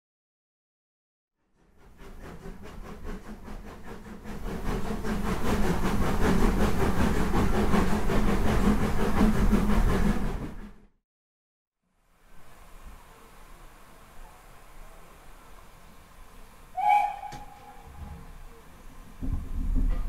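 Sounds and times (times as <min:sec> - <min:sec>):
steam train running: 0:01.6 - 0:10.9, 0:12.2 - 0:20.0.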